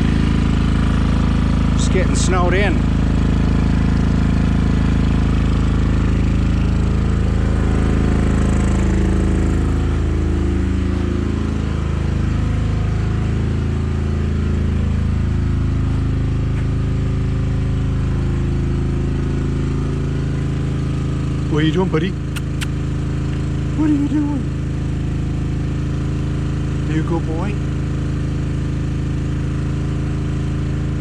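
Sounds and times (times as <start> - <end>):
diesel generator running: 0.0 - 31.0.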